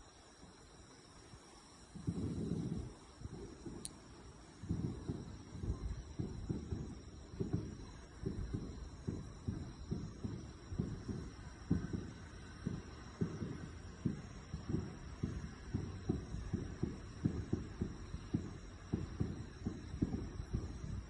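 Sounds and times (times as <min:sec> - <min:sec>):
distant fireworks booming: 0:01.8 - 0:21.0.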